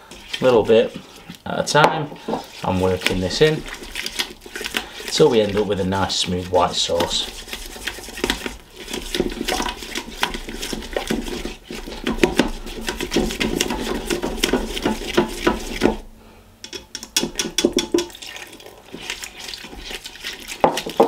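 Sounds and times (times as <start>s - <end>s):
whisk scraping and tapping pot: 0.0s - 21.0s.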